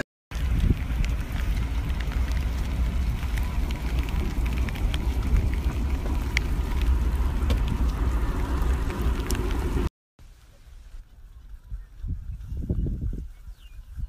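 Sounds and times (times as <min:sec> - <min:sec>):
wind buffeting a microphone: 0:00.3 - 0:09.9, 0:10.8 - 0:14.0.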